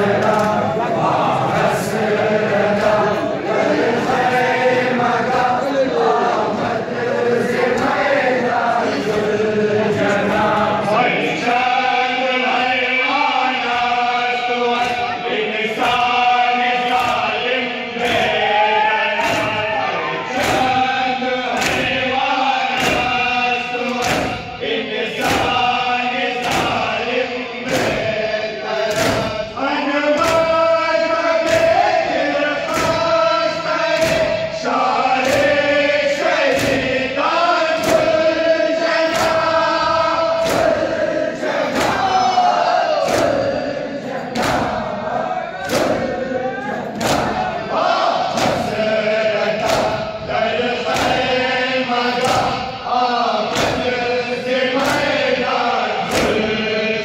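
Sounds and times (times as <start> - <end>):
men chanting in unison: 0.0 - 57.0.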